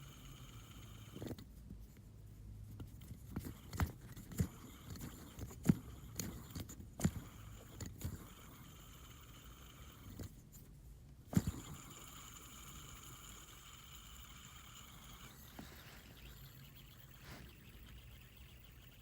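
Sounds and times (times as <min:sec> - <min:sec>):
faint steady hum: 0:00.0 - 0:19.0
fidget spinner clicks and knocks: 0:02.8 - 0:10.4, 0:11.3 - 0:19.0.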